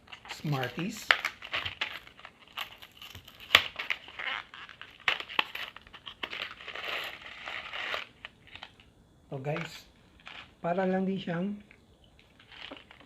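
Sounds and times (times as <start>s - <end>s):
candy package crinkling: 0.0s - 8.9s, 9.5s - 10.6s, 11.6s - 13.0s.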